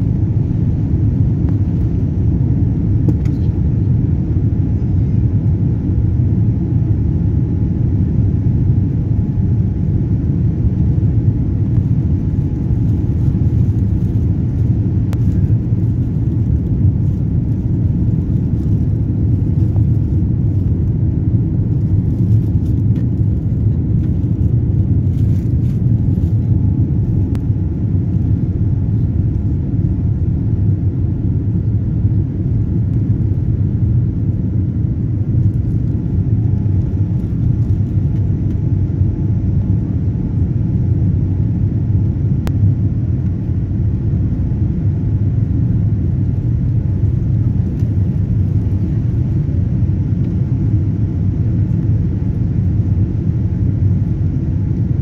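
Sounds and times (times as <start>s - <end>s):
faint steady whine: 0.0s - 55.0s
jet engine cabin rumble: 0.0s - 55.0s.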